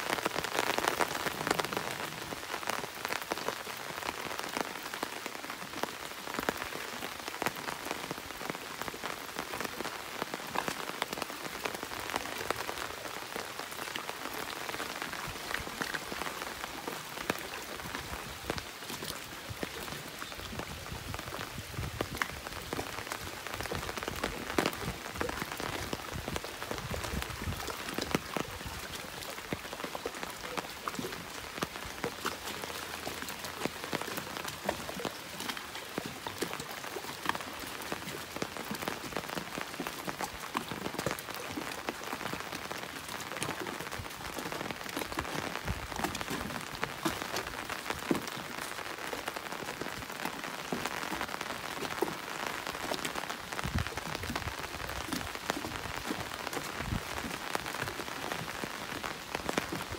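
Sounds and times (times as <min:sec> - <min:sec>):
raindrops ticking: 0:00.0 - 0:59.9.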